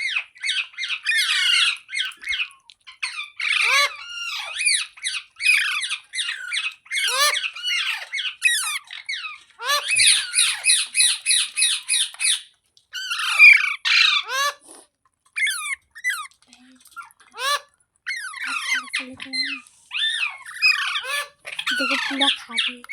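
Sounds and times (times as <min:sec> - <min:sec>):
parakeet squawking: 0:00.0 - 0:12.4, 0:13.0 - 0:14.6, 0:15.4 - 0:16.3, 0:17.0 - 0:22.9.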